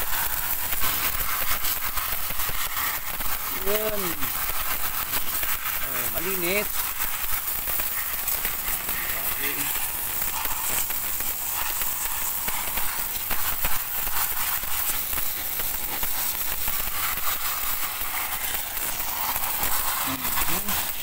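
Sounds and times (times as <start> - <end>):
pressure washer spray hissing: 0.0 - 21.0
water spattering: 0.0 - 21.0.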